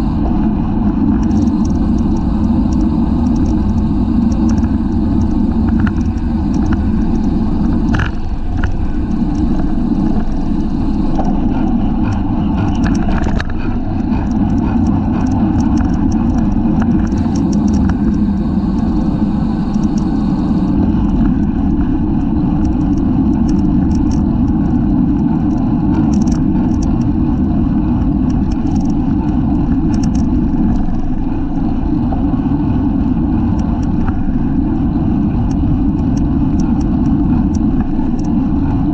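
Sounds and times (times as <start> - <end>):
wind rushing over microphone: 0.0 - 38.9
bicycle clicks and rattles: 1.0 - 32.2, 32.8 - 38.9.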